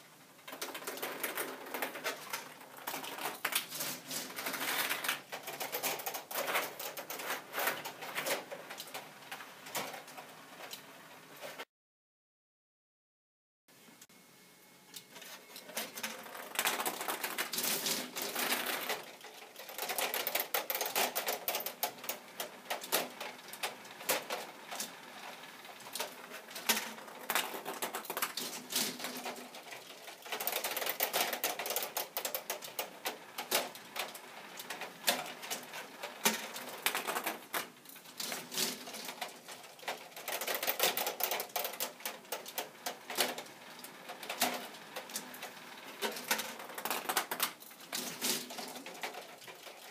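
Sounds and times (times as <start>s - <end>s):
plastic mechanism clattering: 0.4s - 10.8s, 15.2s - 49.9s.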